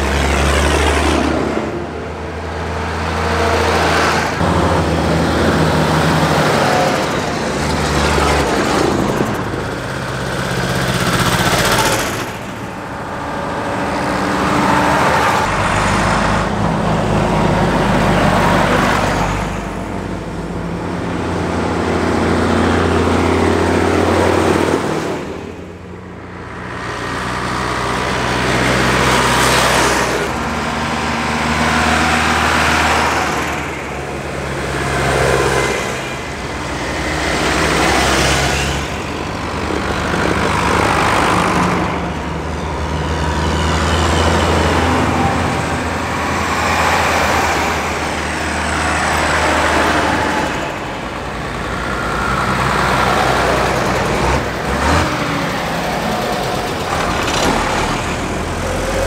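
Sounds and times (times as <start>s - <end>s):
tractors driving past: 0.0s - 59.0s.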